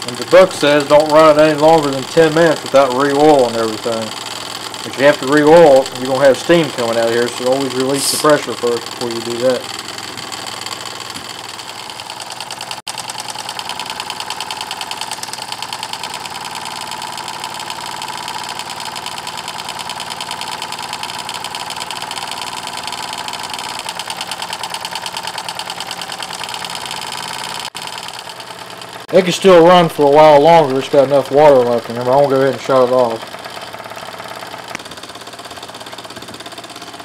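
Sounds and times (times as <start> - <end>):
model steam engine chuffing: 0.0 - 37.0.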